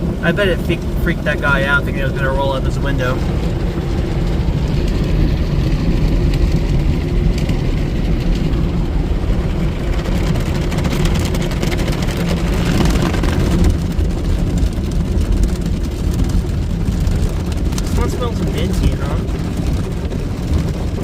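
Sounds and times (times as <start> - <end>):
car wash machine rumbling: 0.0 - 21.0.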